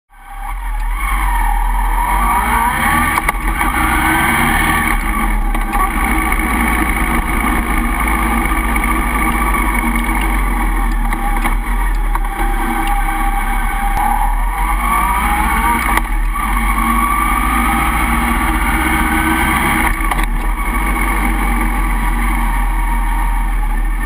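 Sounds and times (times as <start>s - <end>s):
motorcycle engine: 0.1s - 24.0s.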